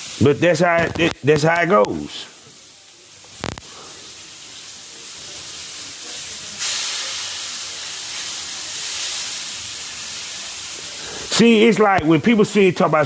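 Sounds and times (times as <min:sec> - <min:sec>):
steady airy hiss: 0:00.0 - 0:13.0.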